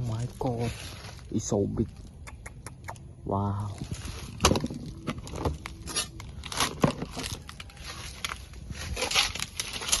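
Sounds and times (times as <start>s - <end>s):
leaves rustling and crackling: 0.0s - 2.3s, 3.3s - 10.0s.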